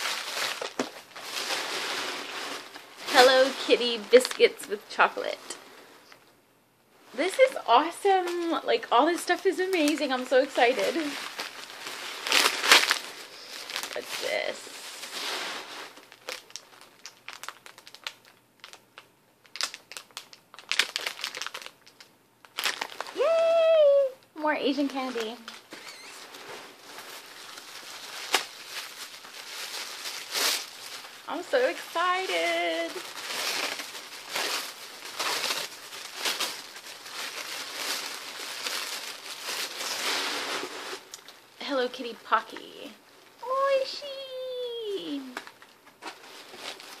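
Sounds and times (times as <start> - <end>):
paper wrapping crumpling and tearing: 0.0 - 5.6, 7.2 - 42.8, 43.4 - 47.0
plastic bag crinkling: 0.0 - 6.2, 7.2 - 42.8, 43.4 - 47.0.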